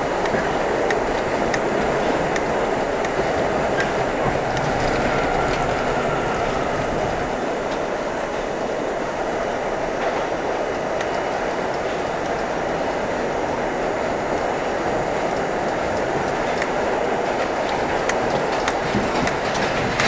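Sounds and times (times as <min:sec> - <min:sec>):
faint track clicks: 0:00.0 - 0:07.9, 0:10.0 - 0:13.1, 0:13.8 - 0:20.0
subway train rumbling in tunnel: 0:00.0 - 0:20.0.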